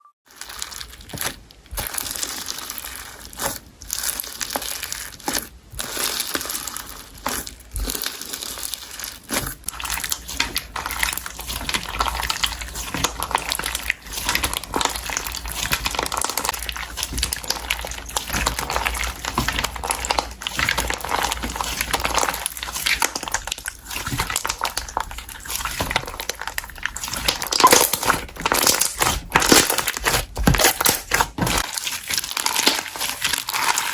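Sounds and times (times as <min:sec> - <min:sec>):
slime squished crackling and popping: 0:00.3 - 0:33.9.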